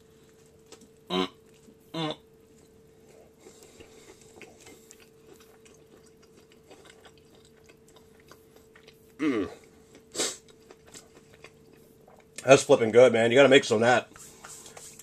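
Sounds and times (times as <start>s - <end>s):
chewing with soft crunches: 0.0s - 12.8s
faint steady hum: 0.0s - 15.0s.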